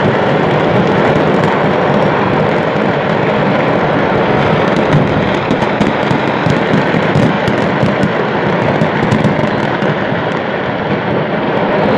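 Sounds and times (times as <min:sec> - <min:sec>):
fireworks crackling and rumbling: 0:00.0 - 0:11.9.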